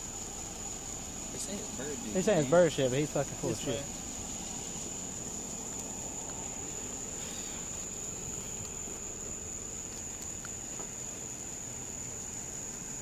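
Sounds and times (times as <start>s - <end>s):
insects trilling: 0.0s - 13.0s
low background rumble: 0.0s - 13.0s.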